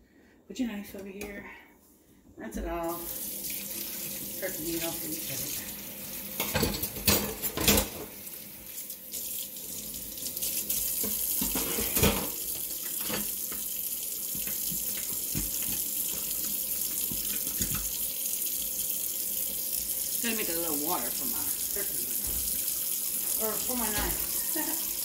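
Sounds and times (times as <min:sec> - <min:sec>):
faucet running into sink: 0:02.8 - 0:25.0.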